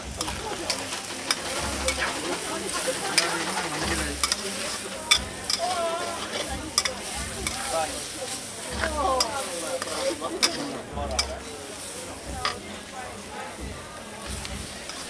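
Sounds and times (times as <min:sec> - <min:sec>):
metal spatula scraping a wok: 0:00.0 - 0:12.9, 0:13.6 - 0:15.0
food sizzling in a wok: 0:00.0 - 0:15.0.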